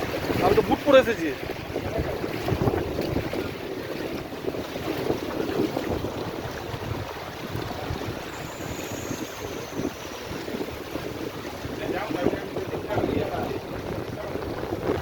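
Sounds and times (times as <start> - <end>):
floodwater rushing: 0.0 - 15.0
wind buffeting microphone: 0.0 - 15.0.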